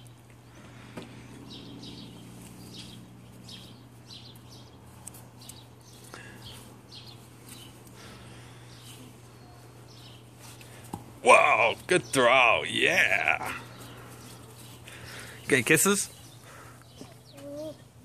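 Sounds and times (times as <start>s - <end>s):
bird chirping: 1.4s - 10.8s, 11.5s - 18.0s.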